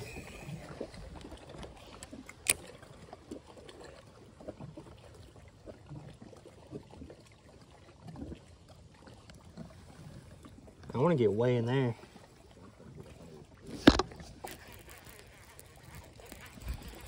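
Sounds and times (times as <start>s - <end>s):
water lapping against kayak hull: 0.0s - 17.0s.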